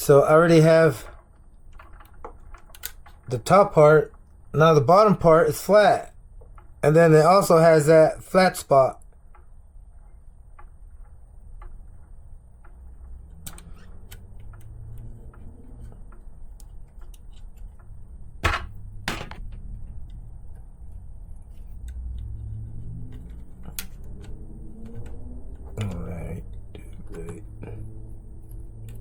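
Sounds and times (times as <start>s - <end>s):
small parts clicking and tapping: 0.4s - 4.6s, 5.6s - 7.6s, 8.8s - 29.0s.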